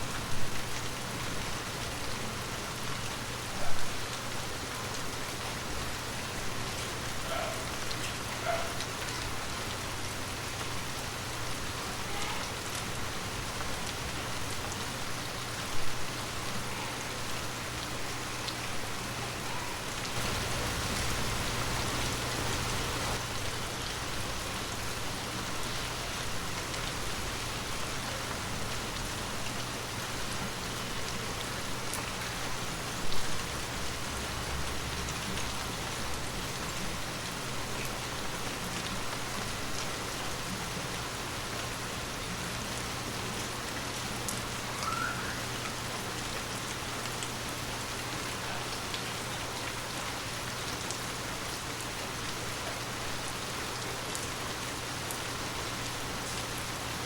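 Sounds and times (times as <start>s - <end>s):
heavy rain falling: 0.0s - 57.0s
raindrops striking close by: 0.0s - 57.0s.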